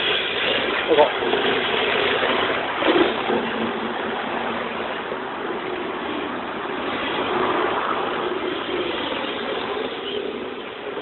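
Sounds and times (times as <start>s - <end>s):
tyre noise on asphalt: 0.0s - 11.0s.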